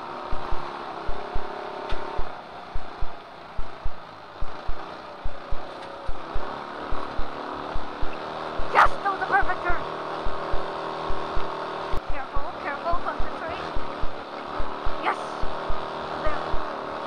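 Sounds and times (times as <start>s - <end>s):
muffled kart engine drone: 0.0s - 17.0s.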